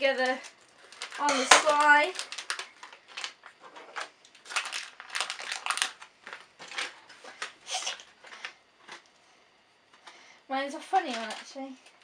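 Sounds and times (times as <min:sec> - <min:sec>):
plastic bags crinkling: 0:00.0 - 0:09.1, 0:11.0 - 0:12.0.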